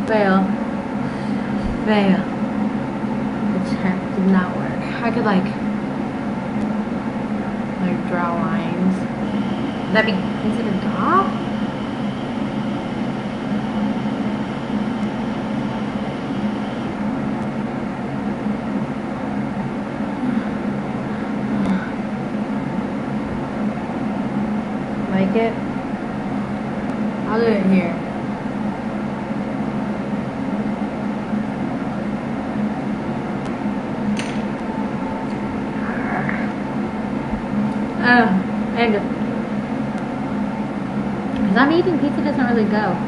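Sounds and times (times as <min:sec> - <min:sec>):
low mechanical hum with hiss: 0:00.0 - 0:43.0.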